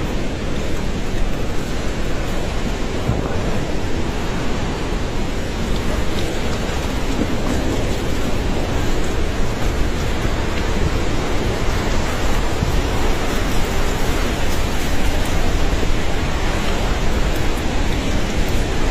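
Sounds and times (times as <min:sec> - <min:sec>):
flooded river rushing: 0:00.0 - 0:18.9.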